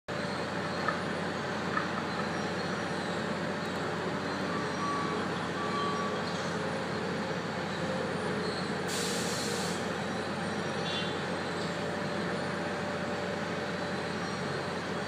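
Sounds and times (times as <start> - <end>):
road construction machinery running: 0.1 - 15.0.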